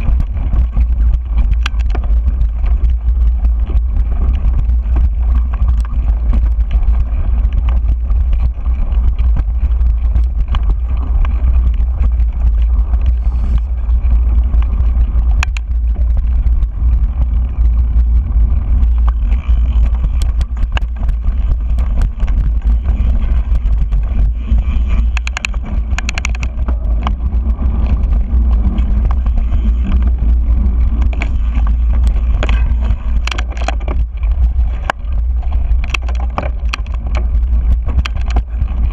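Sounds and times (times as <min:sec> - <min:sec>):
bike clicks and rattles: 0:00.0 - 0:38.9
bike rolling low rumble: 0:00.0 - 0:38.9.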